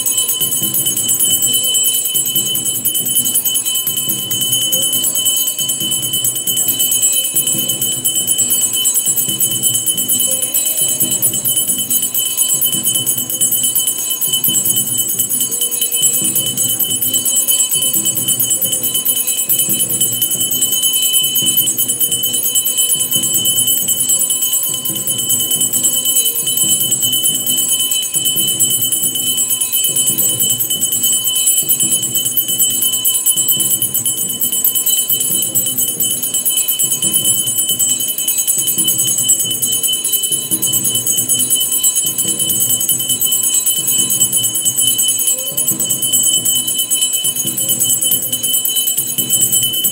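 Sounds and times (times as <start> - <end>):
bells ringing: 0.0 - 49.9
steady drum beat: 0.0 - 49.9.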